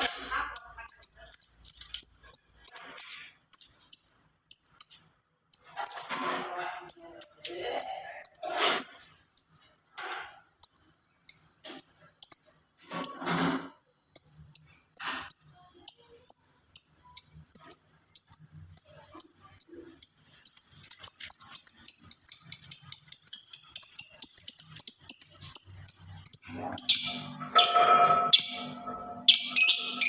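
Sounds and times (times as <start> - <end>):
bird chirping: 0.0 - 13.2, 14.2 - 30.0.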